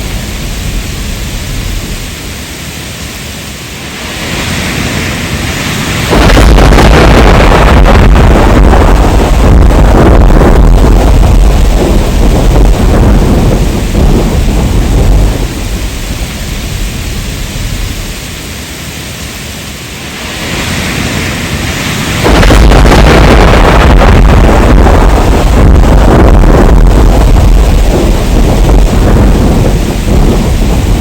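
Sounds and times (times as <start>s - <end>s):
deep rolling thunder: 0.0s - 2.4s, 3.9s - 18.4s, 20.1s - 31.0s
heavy rain: 0.0s - 31.0s.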